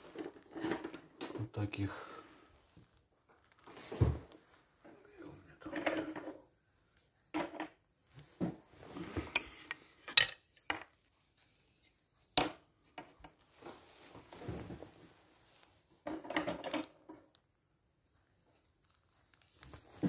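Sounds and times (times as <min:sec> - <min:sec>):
rustling and scraping of tools: 0:00.0 - 0:17.4, 0:18.3 - 0:20.0.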